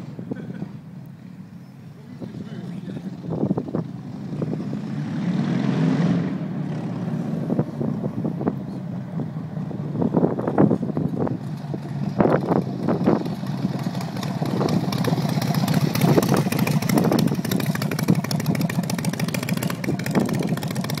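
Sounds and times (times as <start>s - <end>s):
motorcycle riding past: 2.0s - 21.0s.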